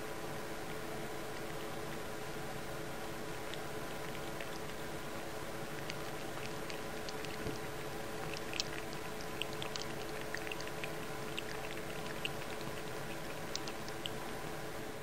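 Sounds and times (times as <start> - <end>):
steady low hum: 0.0 - 15.0
cat lapping water: 1.2 - 14.5.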